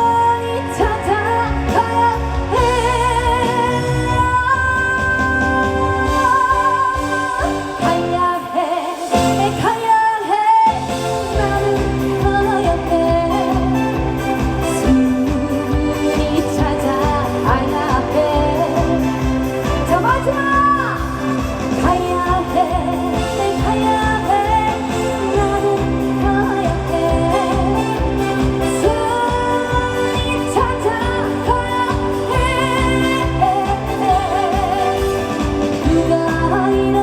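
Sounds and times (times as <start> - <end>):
backing track with steady beat: 0.0 - 37.0
woman singing: 0.0 - 37.0.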